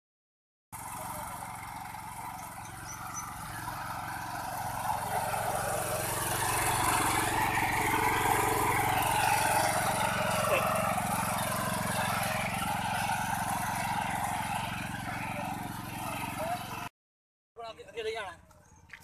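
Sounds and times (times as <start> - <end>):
tractor engine running: 0.8 - 16.9.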